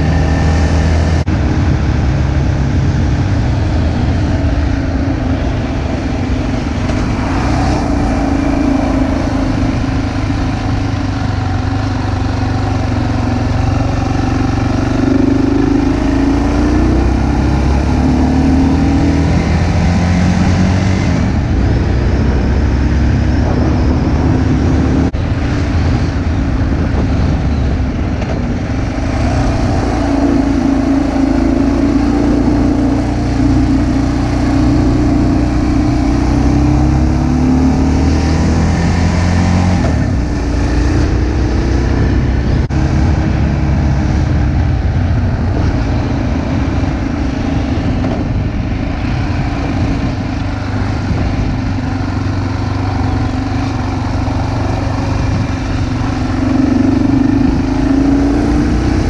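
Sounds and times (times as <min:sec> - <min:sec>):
road noise: 0:00.0 - 0:59.0
vehicle engine revving: 0:00.0 - 0:59.0.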